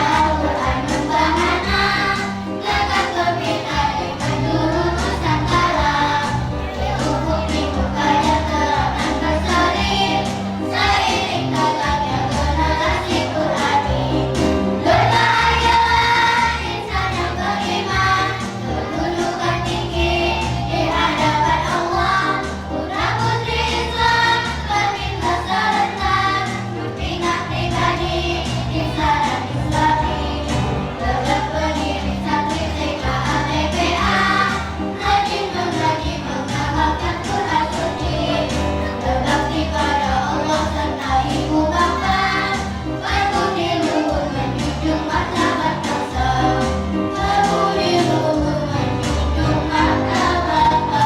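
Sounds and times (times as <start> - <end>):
children's choir singing: 0.0 - 51.0
musical accompaniment with beat: 0.0 - 51.0.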